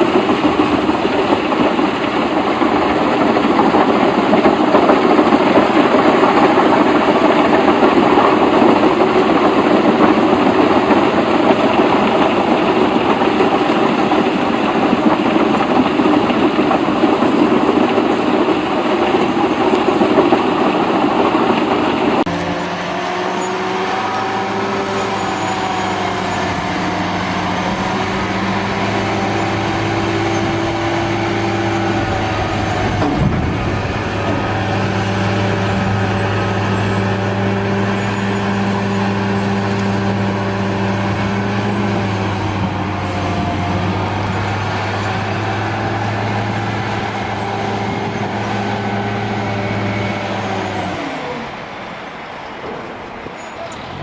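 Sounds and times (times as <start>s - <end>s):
engine droning low: 0.0s - 54.0s
rough heavy machinery noise: 0.0s - 54.0s.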